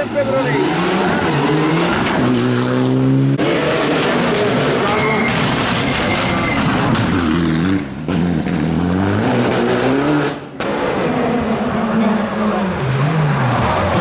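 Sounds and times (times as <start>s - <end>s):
car engine revving hard: 0.3s - 5.9s, 6.7s - 14.0s.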